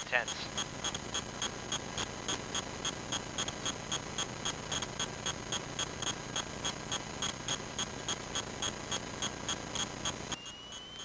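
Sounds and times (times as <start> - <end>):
rapid ticking: 0.0 - 10.4.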